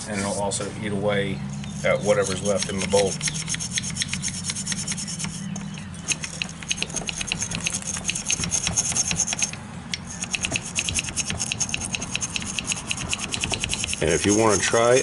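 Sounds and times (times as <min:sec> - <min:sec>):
brush scrubbing metal: 0:01.6 - 0:15.0.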